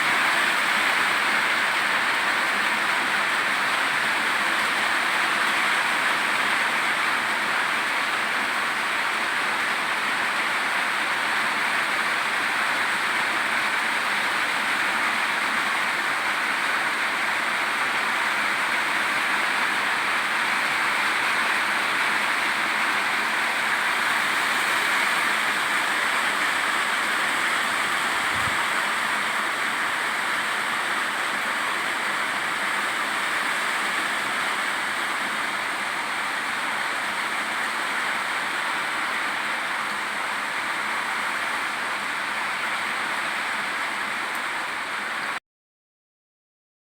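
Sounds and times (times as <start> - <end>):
heavy rain: 0.0 - 45.4.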